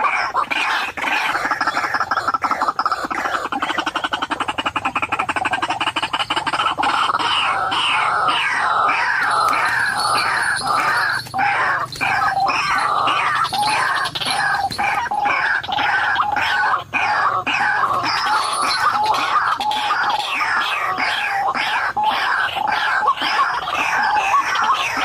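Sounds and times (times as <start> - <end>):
waterhen calling harsh notes: 0.0 - 25.0.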